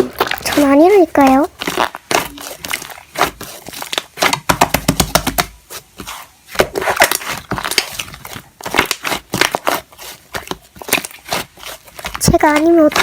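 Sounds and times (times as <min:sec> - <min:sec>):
slime squishing: 0:00.0 - 0:13.0.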